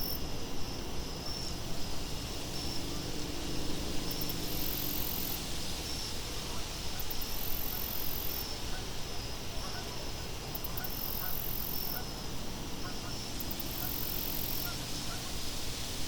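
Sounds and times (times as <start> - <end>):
crickets chirping: 0.0 - 16.0
high insect trill: 0.0 - 16.0
wind-like hiss: 0.0 - 16.0.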